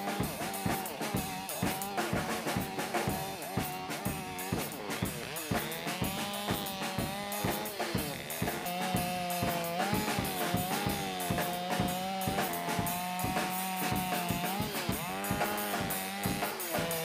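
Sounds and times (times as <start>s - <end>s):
music with drum beat: 0.0s - 17.0s.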